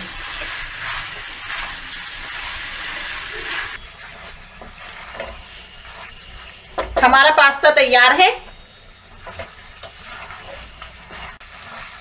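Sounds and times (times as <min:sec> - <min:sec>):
spatula stirring: 0:00.0 - 0:07.1, 0:08.5 - 0:12.0
food sizzling in a wok: 0:00.0 - 0:12.0.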